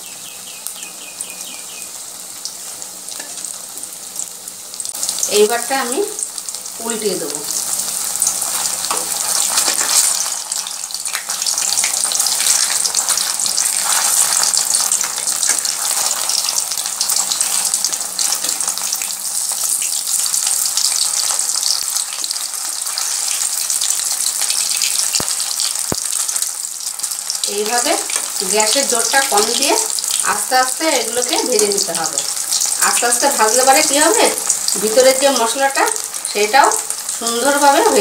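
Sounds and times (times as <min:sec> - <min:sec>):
deep-frying sizzle with crackling: 0:00.0 - 0:38.0.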